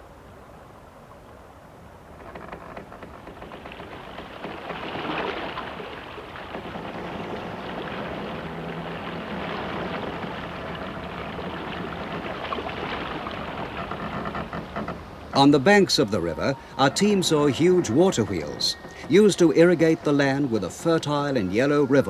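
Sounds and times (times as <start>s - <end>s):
rushing river water: 0.0s - 22.0s.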